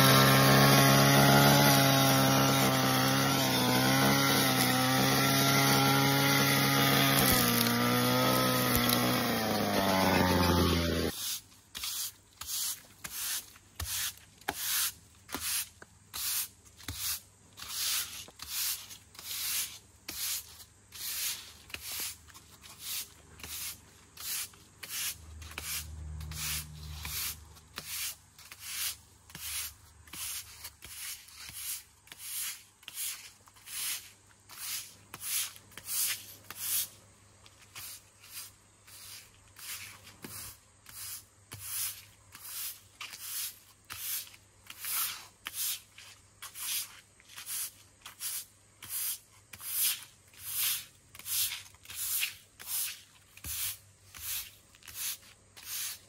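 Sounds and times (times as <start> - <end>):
broom sweeping: 0.1 - 56.0.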